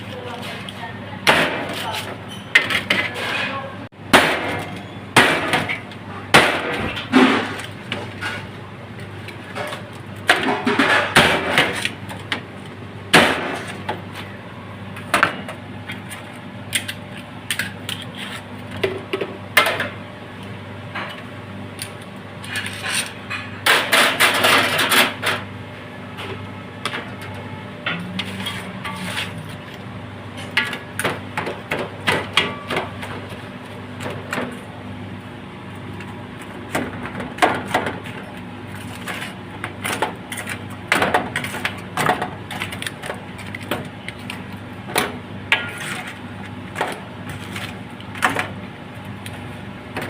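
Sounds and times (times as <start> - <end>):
knocks and clatter of kitchen work: 0.0 - 50.0.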